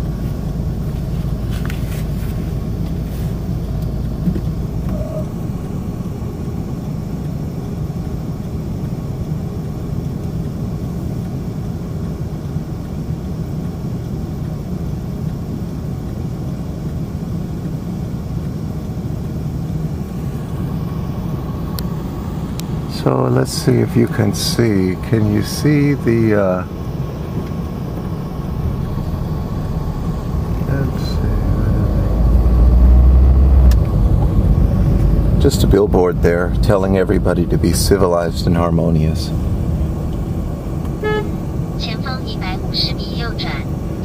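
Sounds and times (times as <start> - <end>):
car road and engine noise: 0.0 - 44.0.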